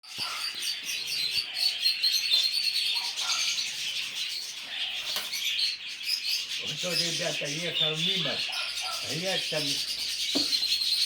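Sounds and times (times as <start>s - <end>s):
budgerigars chattering: 0.1s - 11.0s.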